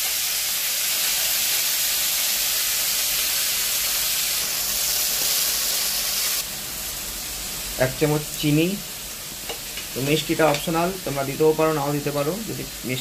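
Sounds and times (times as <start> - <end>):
greens sizzling in hot oil: 0.0 - 13.0.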